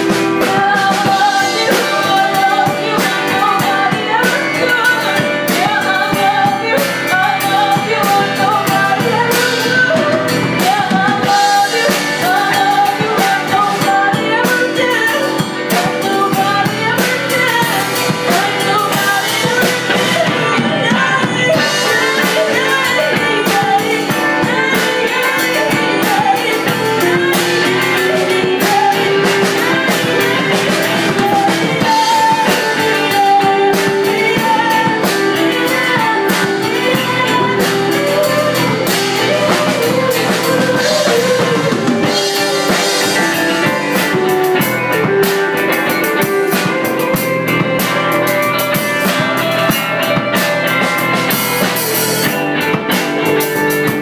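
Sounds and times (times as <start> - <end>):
bass guitar: 0.0 - 54.0
electric guitars: 0.0 - 54.0
woman singing: 0.0 - 54.0.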